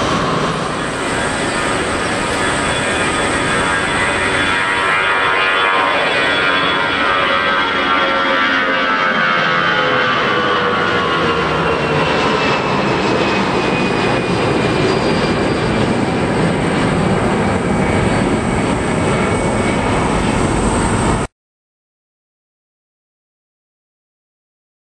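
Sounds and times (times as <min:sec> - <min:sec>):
jet engines roaring: 0:00.0 - 0:21.3.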